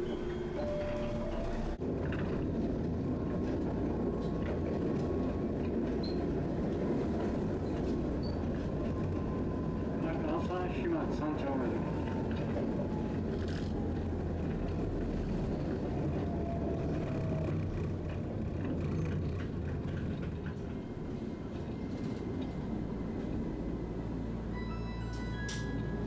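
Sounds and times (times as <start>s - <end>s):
streetcar wheels and motors rumbling: 0.0s - 26.0s.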